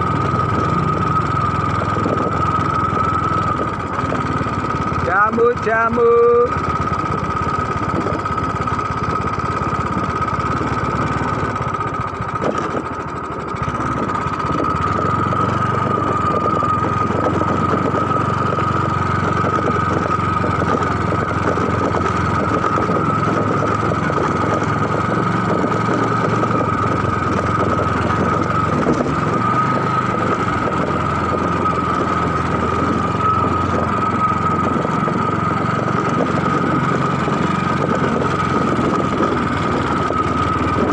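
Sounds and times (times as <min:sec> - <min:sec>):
engine running steadily: 0:00.0 - 0:40.9
steady high whine: 0:00.0 - 0:40.9.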